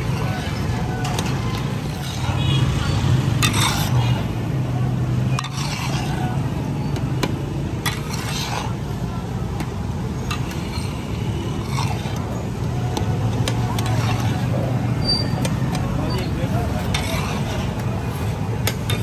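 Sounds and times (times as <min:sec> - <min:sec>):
metal spatulas scraping griddle: 0:00.0 - 0:19.0.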